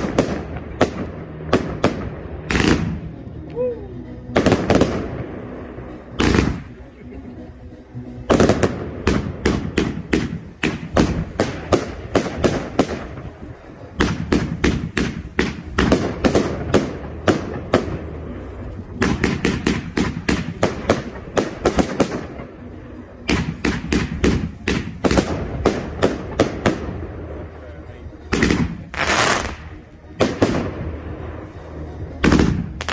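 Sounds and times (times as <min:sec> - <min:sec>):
fireworks bangs: 0:00.0 - 0:03.2, 0:08.3 - 0:18.4, 0:19.0 - 0:32.9.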